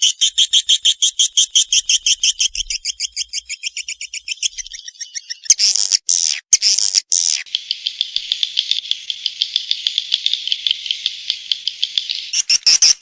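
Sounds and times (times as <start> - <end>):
harsh buzzing bird calls: 0.0 - 13.0.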